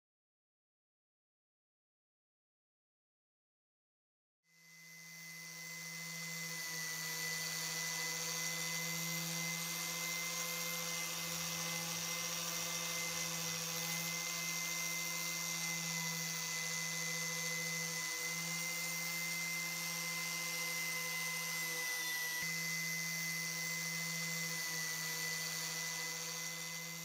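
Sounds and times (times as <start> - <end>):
electric power tool running: 4.5 - 27.0.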